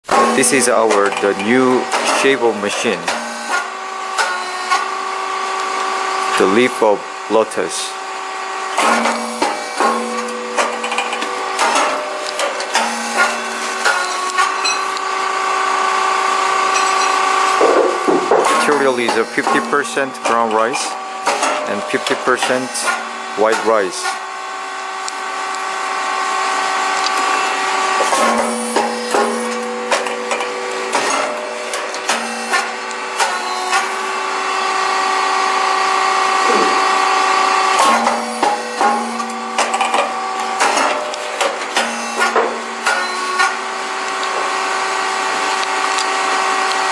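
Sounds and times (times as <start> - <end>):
machine humming: 0.0 - 46.9.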